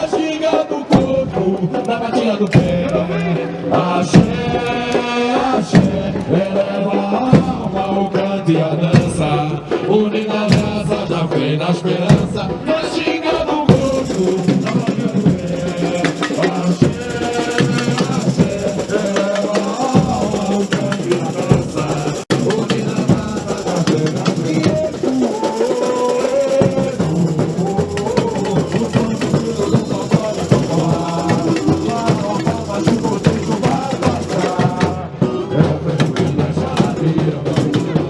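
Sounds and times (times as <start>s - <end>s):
samba percussion band: 0.0s - 38.0s.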